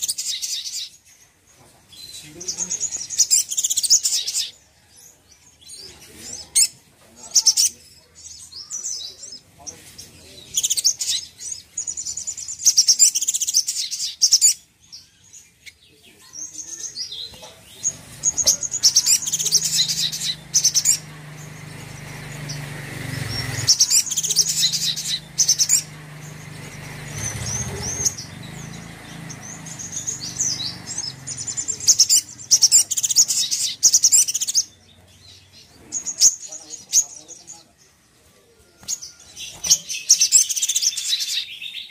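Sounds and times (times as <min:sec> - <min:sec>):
bird singing fast trills: 0:00.0 - 0:38.1, 0:38.8 - 0:41.9.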